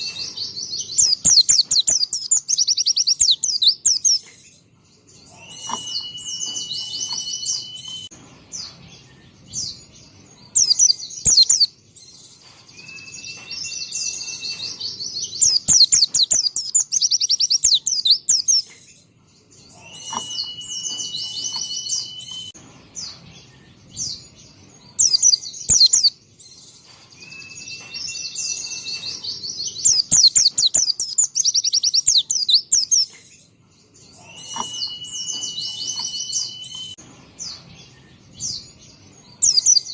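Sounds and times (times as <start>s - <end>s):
bird twittering song with trills: 0.0s - 39.9s.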